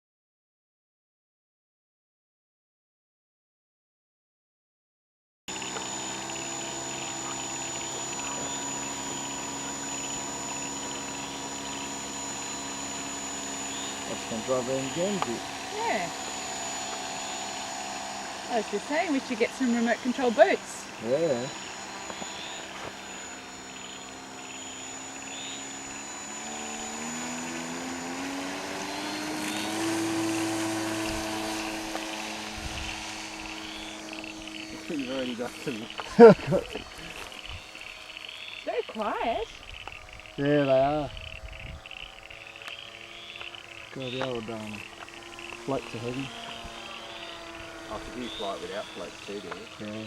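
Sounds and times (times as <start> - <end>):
model plane motor humming: 5.5 - 50.0.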